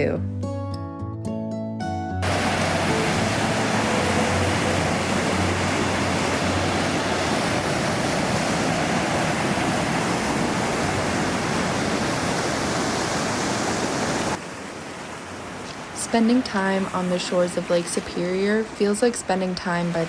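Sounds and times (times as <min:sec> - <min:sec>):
waves washing on shore: 0:02.2 - 0:20.0.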